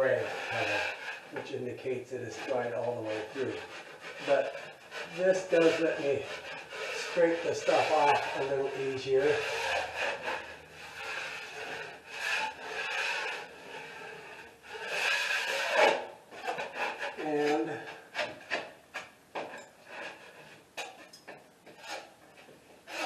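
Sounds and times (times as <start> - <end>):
drywall knife scraping compound: 0.0 - 23.0.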